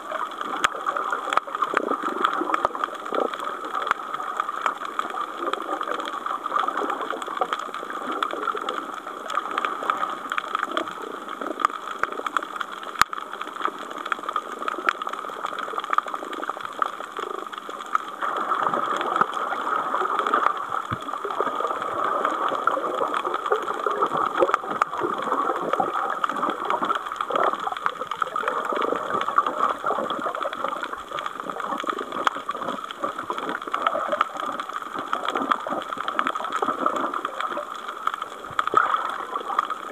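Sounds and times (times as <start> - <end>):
underwater crackling and bubbling hiss: 0.0 - 39.9.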